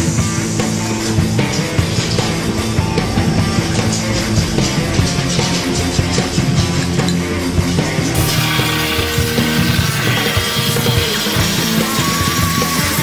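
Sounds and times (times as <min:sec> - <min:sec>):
rock music with distorted guitar: 0:00.0 - 0:13.0.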